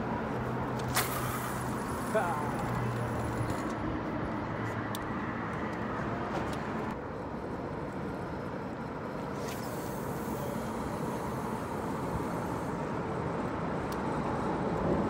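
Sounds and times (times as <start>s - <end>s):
traffic crossing bridge overhead: 0.0s - 15.0s.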